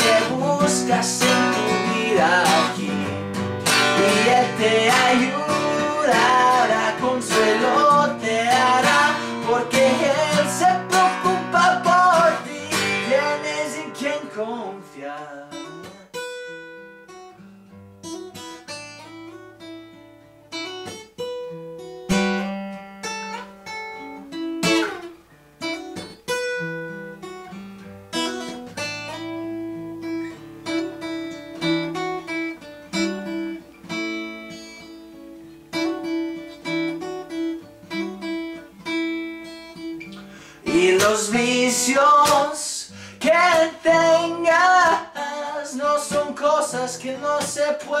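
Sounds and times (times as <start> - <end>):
fingerpicked acoustic guitar: 0.0 - 48.0.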